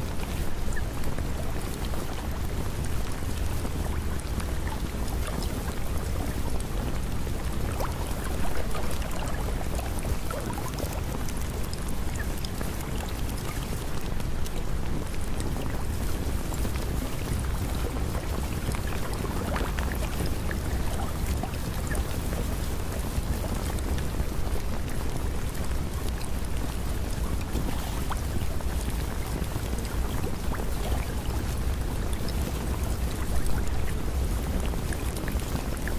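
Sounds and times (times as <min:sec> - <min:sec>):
rain-like water noise: 0:00.0 - 0:35.9.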